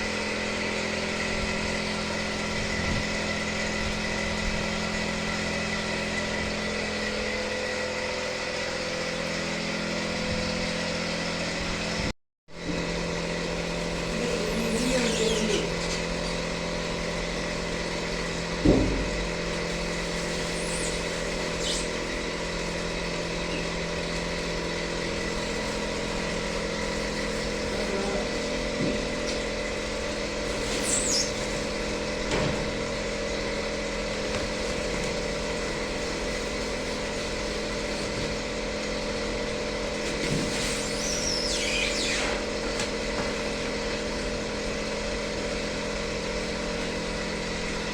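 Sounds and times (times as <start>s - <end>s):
lathe motor and gearbox hum: 0.0s - 47.9s.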